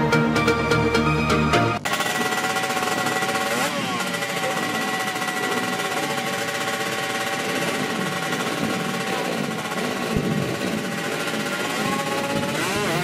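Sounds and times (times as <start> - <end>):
motorcycle engine at high revs: 1.8 - 13.0.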